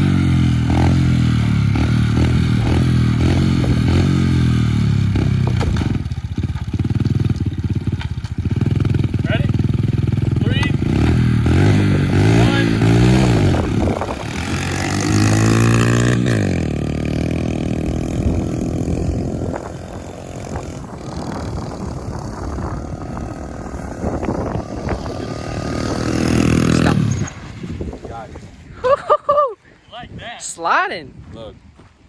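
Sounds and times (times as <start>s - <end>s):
pit bike engine revving: 0.0s - 28.8s.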